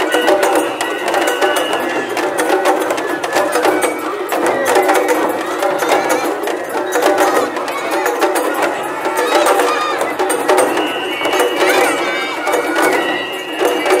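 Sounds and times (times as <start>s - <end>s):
crowd voices: 0.0s - 14.0s
sharp drum strikes: 0.0s - 14.0s.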